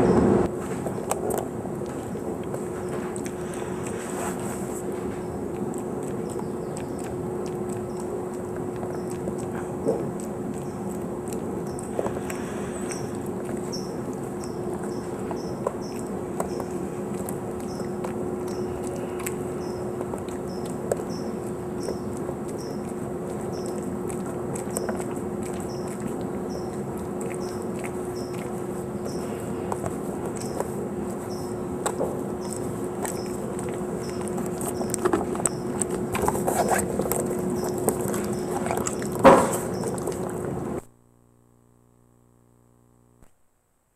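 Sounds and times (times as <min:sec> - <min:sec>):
camcorder hiss and hum: 0:00.0 - 0:43.9
dog licking wet clicks: 0:04.6 - 0:40.6.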